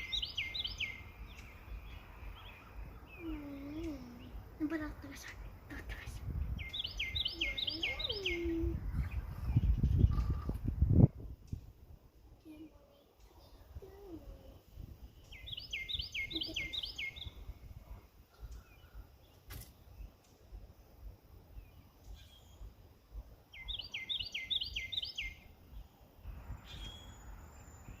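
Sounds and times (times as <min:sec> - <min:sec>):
songbird singing: 0:00.0 - 0:28.0.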